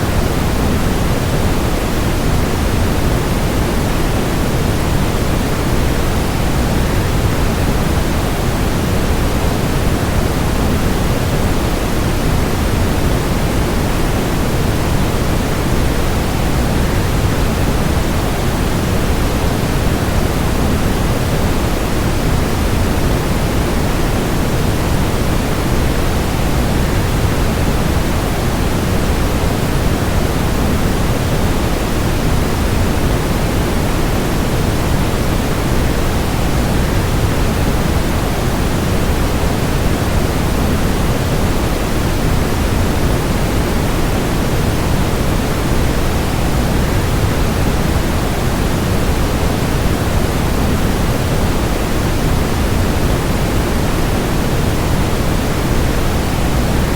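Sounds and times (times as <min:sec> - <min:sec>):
steady white noise: 0:00.0 - 0:56.9.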